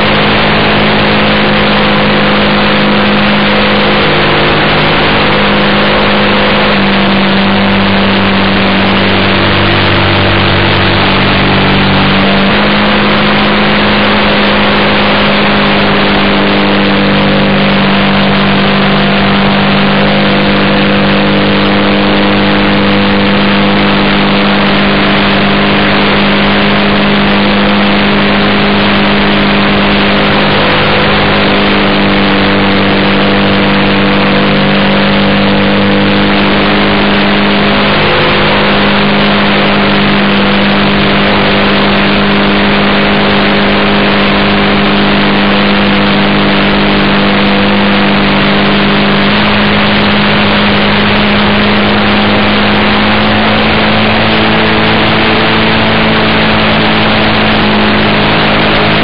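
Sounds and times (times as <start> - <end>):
model plane engine droning: 0.0 - 59.0.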